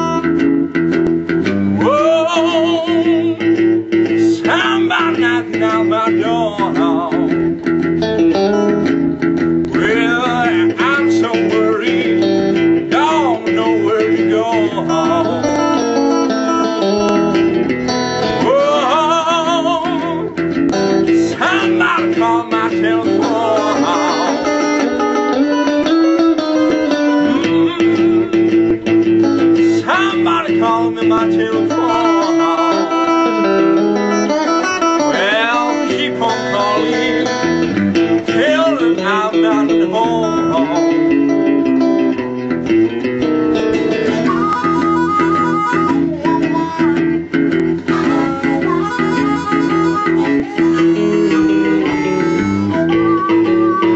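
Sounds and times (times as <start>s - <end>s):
electric guitar playing: 0.0s - 53.9s
man singing: 1.7s - 7.6s, 9.7s - 42.4s, 43.6s - 47.2s, 47.8s - 53.9s.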